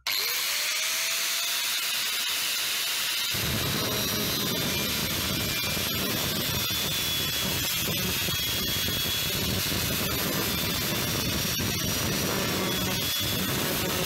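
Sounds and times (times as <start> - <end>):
angle grinder grinding metal: 0.0 - 14.0.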